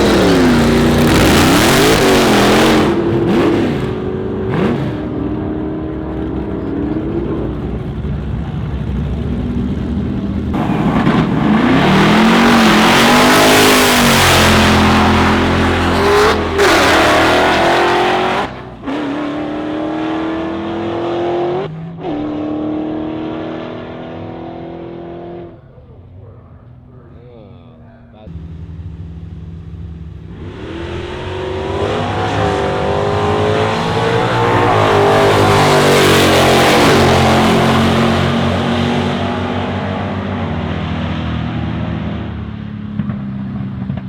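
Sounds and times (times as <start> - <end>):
drag car engines accelerating: 0.0 - 44.0.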